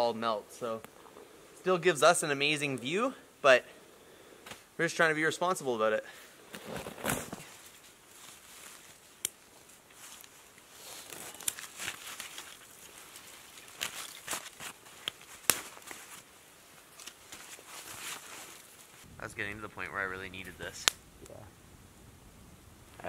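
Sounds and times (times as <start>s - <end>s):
campfire crackling and popping: 0.0s - 4.8s, 6.4s - 23.0s.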